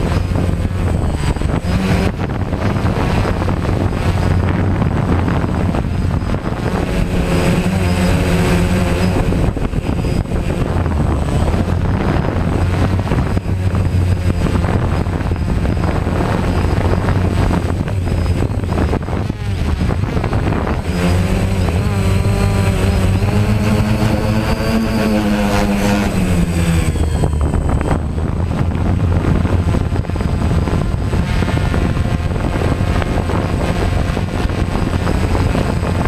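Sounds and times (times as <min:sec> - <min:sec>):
drone propellers buzzing: 0:00.0 - 0:36.0.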